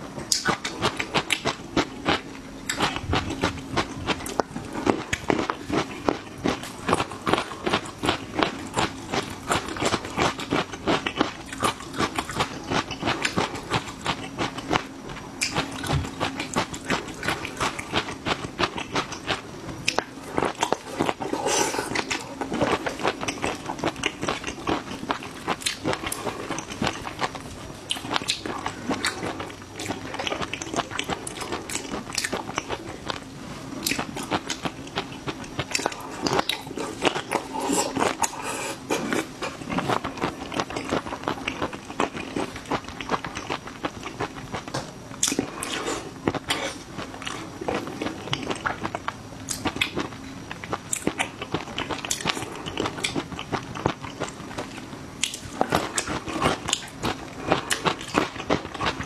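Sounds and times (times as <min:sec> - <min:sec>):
person chewing crunchy food: 0:00.2 - 0:59.0.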